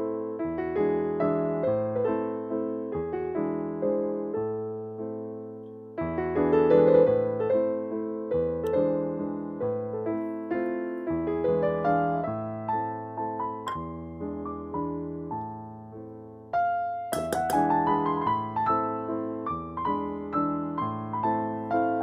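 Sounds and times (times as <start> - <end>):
solo piano waltz: 0.0 - 22.0.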